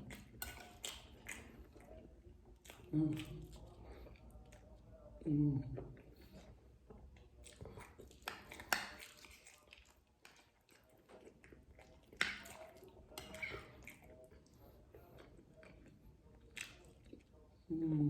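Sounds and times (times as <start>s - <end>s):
wet chewing with lip smacks: 0.0s - 4.9s, 5.7s - 17.7s.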